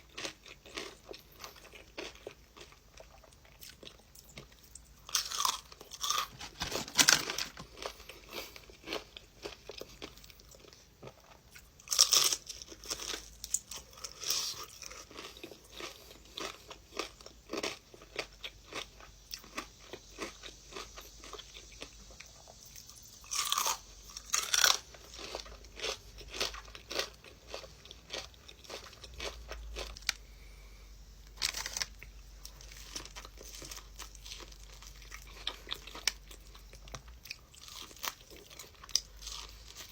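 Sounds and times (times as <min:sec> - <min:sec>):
crunchy bites of food: 0:00.0 - 0:30.3, 0:31.3 - 0:39.9
chewing: 0:00.1 - 0:30.2, 0:31.4 - 0:39.9.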